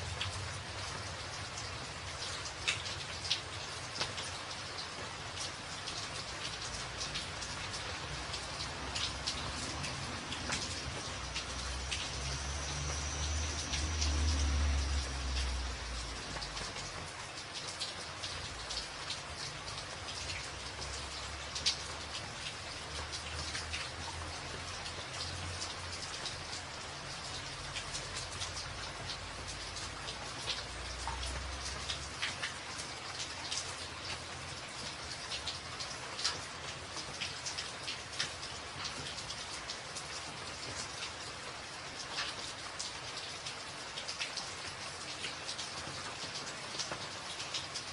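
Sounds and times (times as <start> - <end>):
rain on a tin roof: 0.0 - 47.9.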